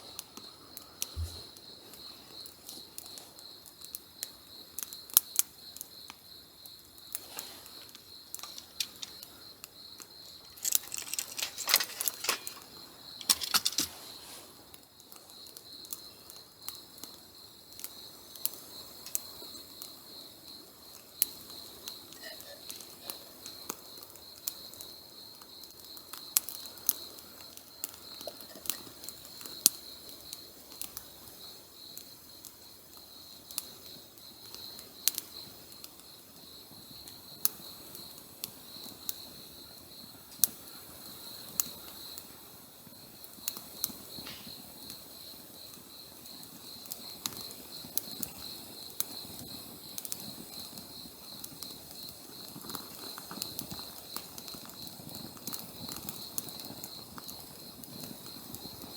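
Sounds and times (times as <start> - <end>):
campfire crackling: 0.1 - 58.9.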